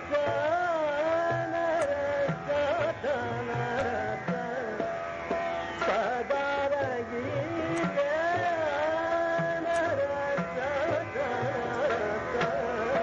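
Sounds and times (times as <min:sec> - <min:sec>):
man singing long held notes: 0:00.0 - 0:05.0, 0:05.8 - 0:13.0
tabla strokes: 0:00.0 - 0:13.0
tanpura drone: 0:00.0 - 0:13.0.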